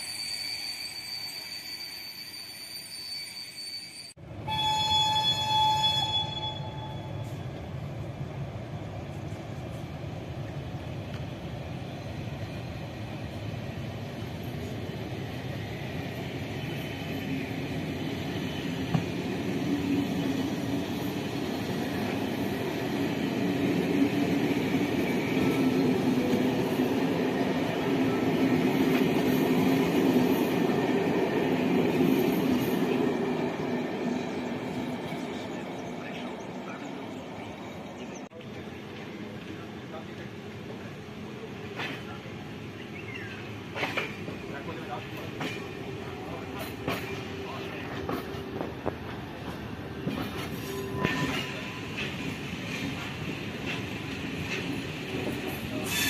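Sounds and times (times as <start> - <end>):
train wheels rumbling on rails: 4.2 - 56.0.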